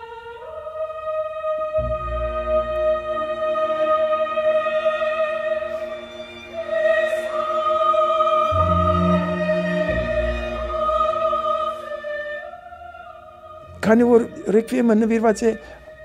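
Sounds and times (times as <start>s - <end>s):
choir and orchestra chords: 0.0s - 16.0s.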